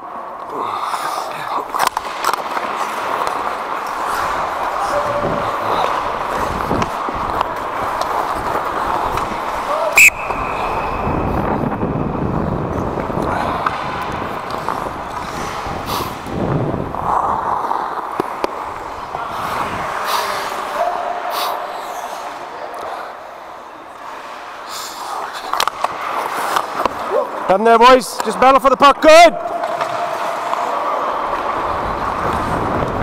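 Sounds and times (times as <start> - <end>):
sticks and puck clacking: 0.0 - 20.8, 23.8 - 33.0
skates scraping on ice: 0.0 - 27.5, 29.1 - 33.0.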